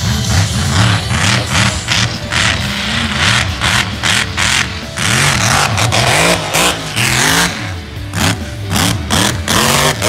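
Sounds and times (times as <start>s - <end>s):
truck engine revving hard: 0.0s - 10.0s.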